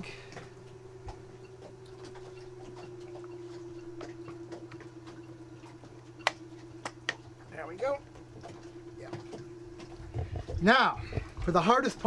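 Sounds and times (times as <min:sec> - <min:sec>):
faint steady tone: 0:00.0 - 0:12.0
steady low hum: 0:00.0 - 0:12.0.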